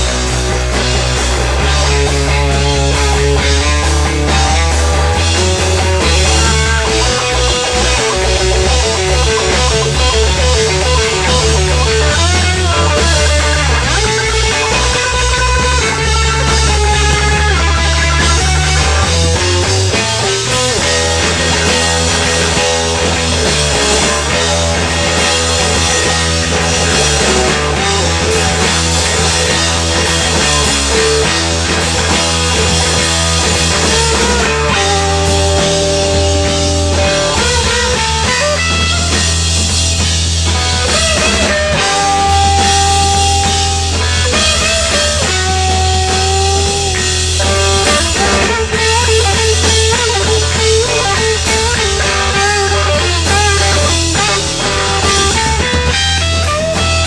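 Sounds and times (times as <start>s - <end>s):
bass line: 0.0s - 57.0s
drums: 0.0s - 57.0s
guitar: 0.0s - 57.0s
live band playing: 0.0s - 57.0s.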